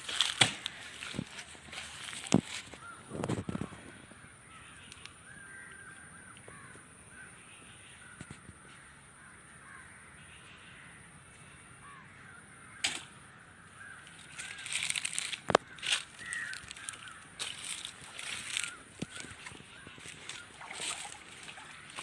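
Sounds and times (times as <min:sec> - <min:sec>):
crows cawing faintly: 0:00.1 - 0:22.0.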